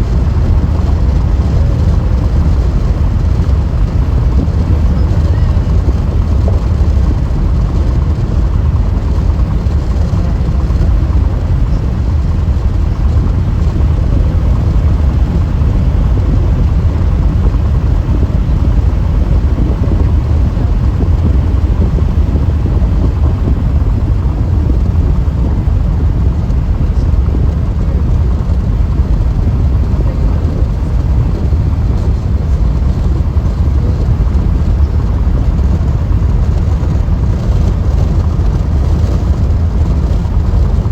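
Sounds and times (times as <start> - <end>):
car tyre and road noise: 0.0 - 40.9.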